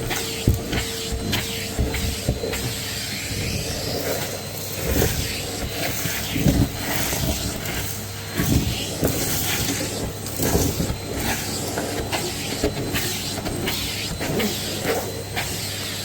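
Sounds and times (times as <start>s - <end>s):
vacuum cleaner running: 0.0s - 16.0s
vacuum tool bumping floor: 0.0s - 16.0s.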